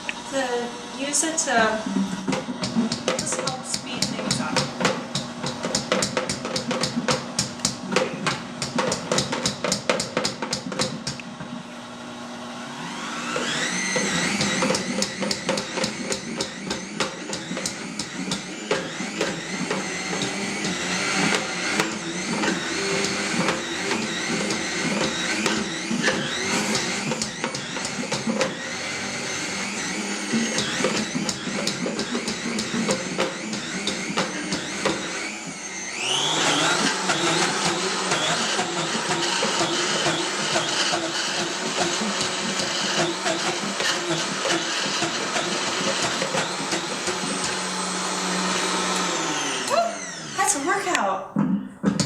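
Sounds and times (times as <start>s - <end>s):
blender motor whine: 0.0s - 51.0s.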